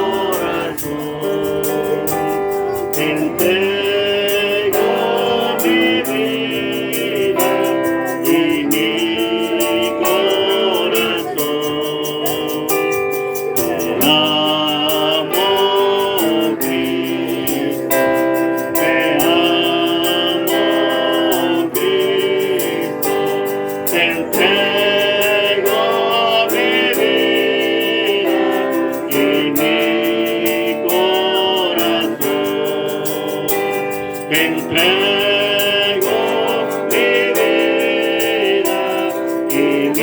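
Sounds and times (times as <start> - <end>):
slow worship song singing: 0.0 - 40.0.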